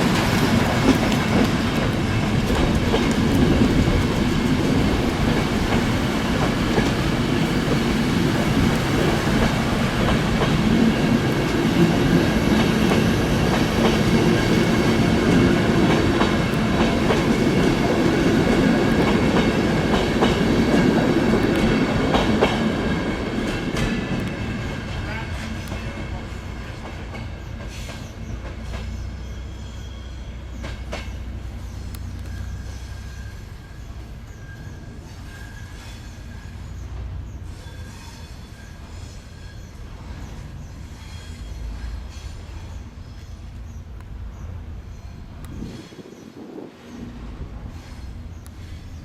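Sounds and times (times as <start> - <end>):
clickety-clack of rail joints: 0.0 - 49.0
train wheels rolling on rails: 0.0 - 49.0.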